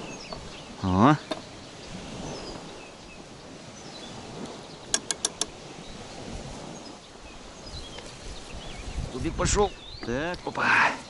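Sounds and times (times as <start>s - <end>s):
faint wind: 0.0s - 11.0s.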